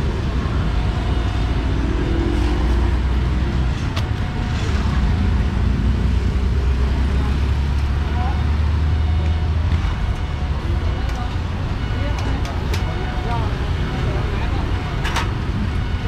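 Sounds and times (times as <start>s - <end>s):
traffic passing: 0.0s - 16.0s.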